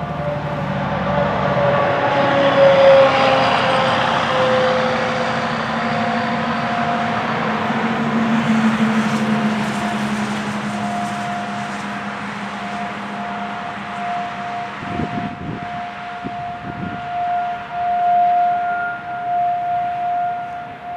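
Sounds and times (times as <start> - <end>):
rotating siren wailing: 0.0 - 20.9.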